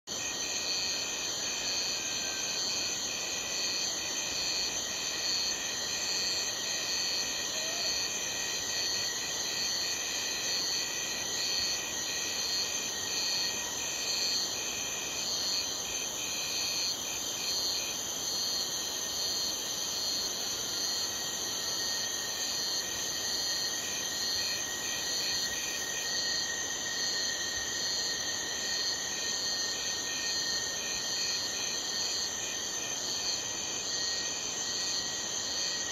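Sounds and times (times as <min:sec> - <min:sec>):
crickets chirping in rapid pulses: 0:00.1 - 0:35.9
crickets trilling: 0:00.1 - 0:35.9.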